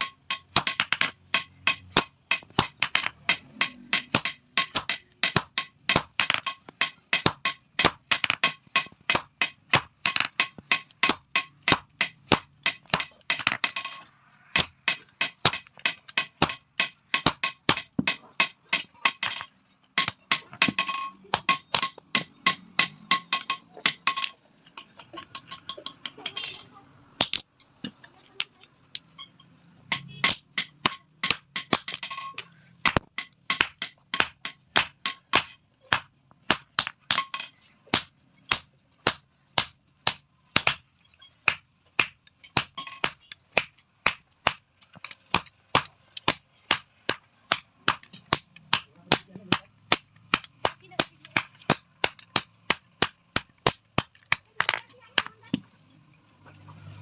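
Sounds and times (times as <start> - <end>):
hammer striking steel on anvil: 0.0 - 26.5, 28.4 - 55.4.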